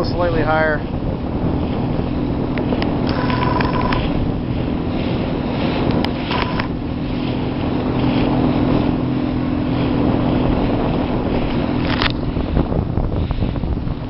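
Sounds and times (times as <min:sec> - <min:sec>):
motorboat engine humming: 0:00.0 - 0:14.0
wind on microphone: 0:00.0 - 0:14.0.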